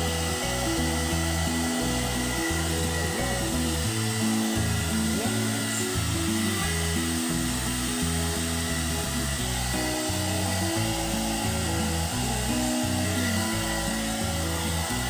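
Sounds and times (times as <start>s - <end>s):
bouncy background music: 0.0s - 15.0s
hot air brush whirring: 0.0s - 15.0s.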